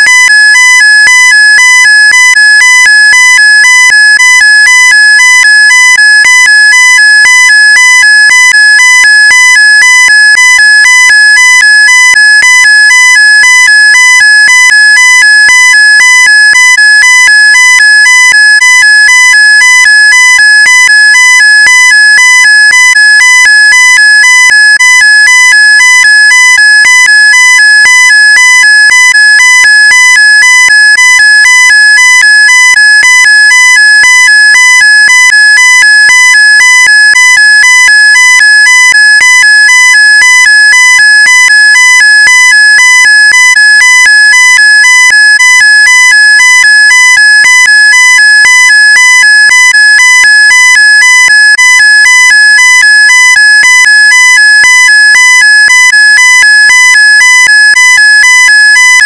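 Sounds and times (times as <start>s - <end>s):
rapid electronic warning beeps: 0.0s - 59.0s.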